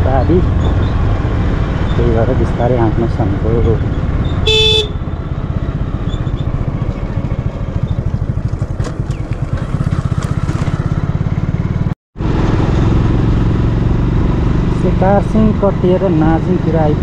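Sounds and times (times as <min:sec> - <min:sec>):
motorcycle engine running: 0:03.3 - 0:17.0.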